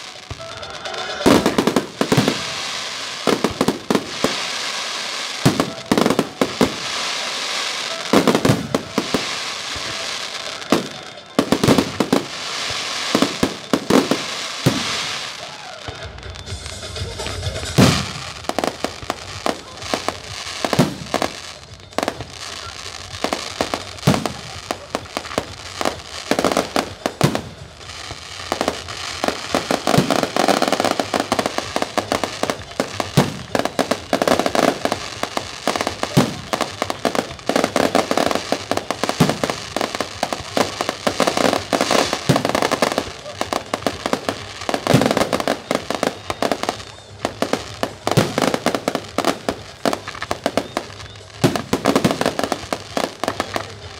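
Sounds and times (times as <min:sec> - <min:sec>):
firework crackling: 0:00.0 - 0:53.9.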